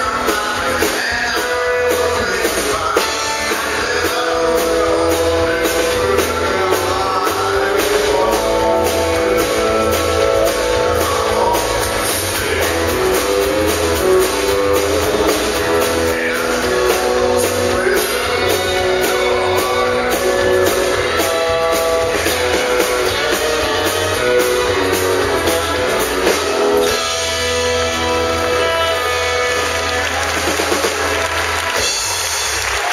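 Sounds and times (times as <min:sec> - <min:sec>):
drum kit beat: 0:00.0 - 0:32.9
electric bass: 0:00.0 - 0:32.9.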